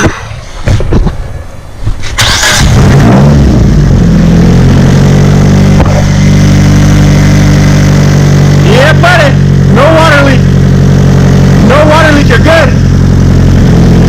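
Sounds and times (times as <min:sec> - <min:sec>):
car engine starting and idling: 0:01.4 - 0:14.0
engine cranking: 0:02.0 - 0:14.0.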